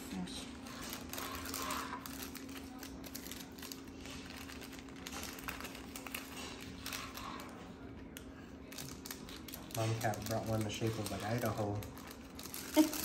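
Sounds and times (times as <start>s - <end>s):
plastic wrapper crinkling: 0.7s - 13.0s.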